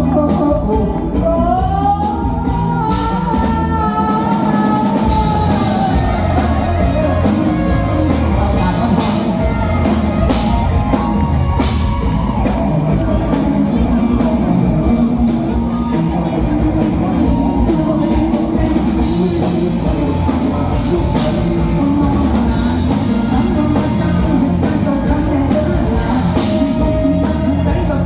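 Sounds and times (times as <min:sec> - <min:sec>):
drum kit steady beat: 0:00.0 - 0:28.0
live band playing: 0:00.0 - 0:28.0.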